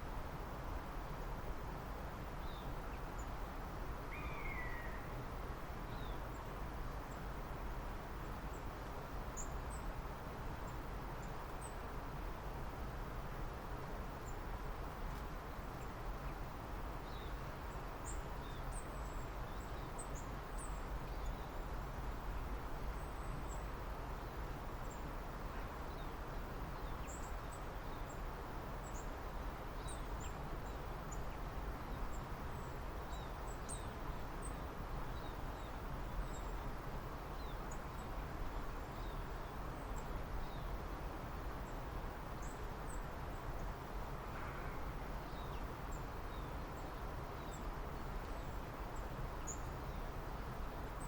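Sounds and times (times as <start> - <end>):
steady background hiss: 0.0 - 51.0
distant small birds chirping: 2.4 - 7.4, 14.1 - 51.0.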